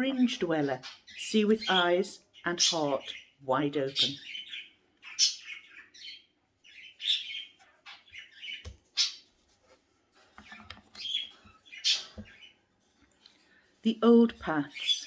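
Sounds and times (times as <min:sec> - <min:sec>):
birds chirping and calling: 0:00.0 - 0:09.5, 0:10.2 - 0:15.0.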